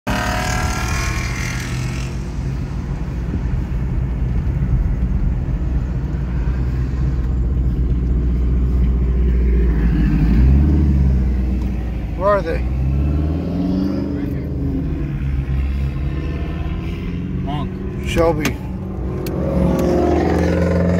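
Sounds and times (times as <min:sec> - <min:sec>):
car engine and road noise: 0:00.0 - 0:20.9.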